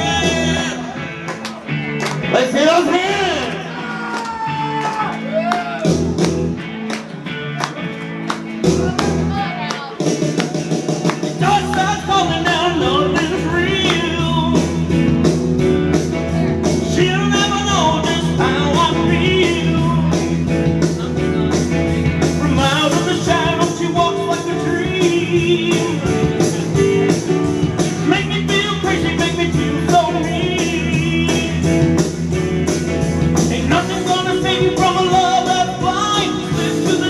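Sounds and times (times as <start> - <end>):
low bass notes: 0.0 - 4.2, 5.0 - 37.0
rock and roll band playing: 0.0 - 37.0.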